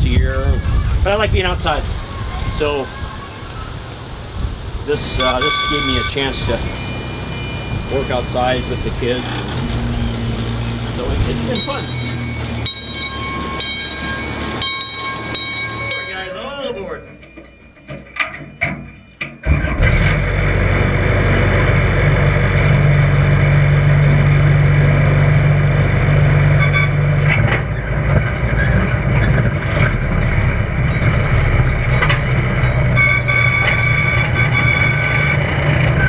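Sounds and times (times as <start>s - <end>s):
miniature train engine rumble: 0.0s - 18.1s, 19.4s - 36.0s.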